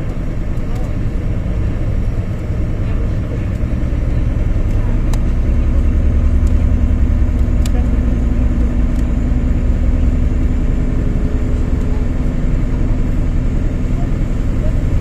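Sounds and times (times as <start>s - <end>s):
diesel engines rumbling: 0.0s - 15.0s
steady hum: 0.0s - 15.0s.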